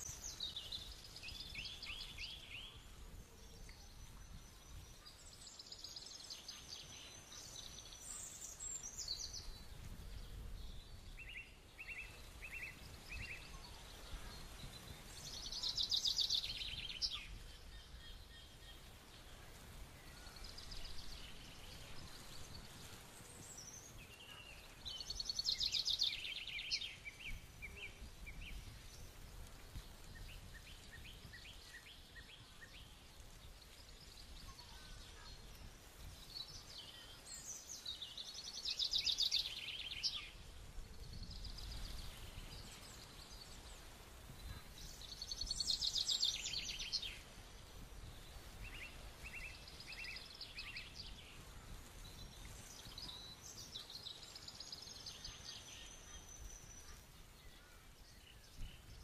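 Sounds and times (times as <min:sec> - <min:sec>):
short evenly spaced bird notes: 0:00.0 - 0:59.0.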